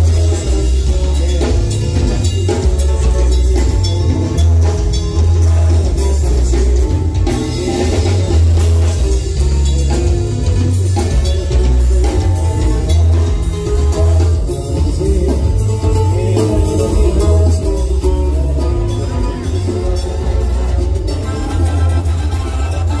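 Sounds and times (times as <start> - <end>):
drum kit beating steadily: 0.0 - 23.0
guitar: 0.0 - 23.0
heavy bass: 0.0 - 23.0
live band playing dance music: 0.0 - 23.0.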